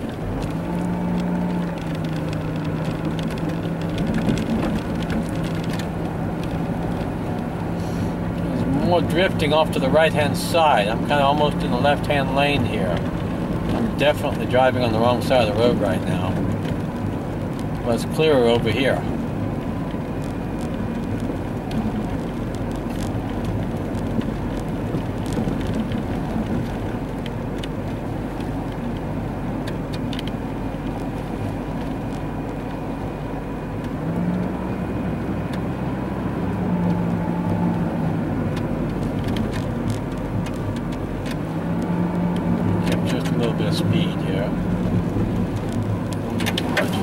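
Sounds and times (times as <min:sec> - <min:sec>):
car engine hum: 0:00.0 - 0:47.0.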